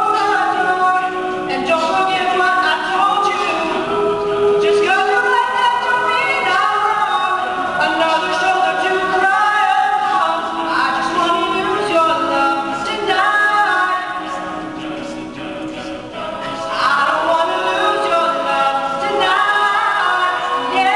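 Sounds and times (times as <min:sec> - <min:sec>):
male a cappella group singing: 0:00.0 - 0:20.9.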